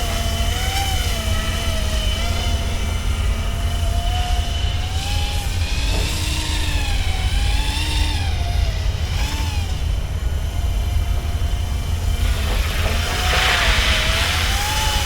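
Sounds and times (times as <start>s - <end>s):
helicopter tail rotor whirring: 0.0s - 15.0s.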